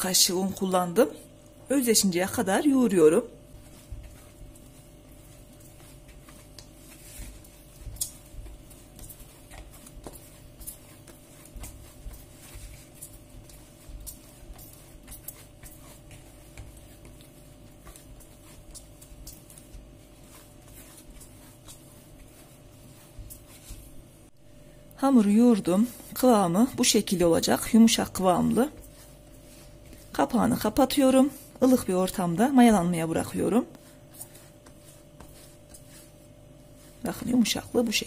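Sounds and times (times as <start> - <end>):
hands kneading dough: 0.0 - 38.0.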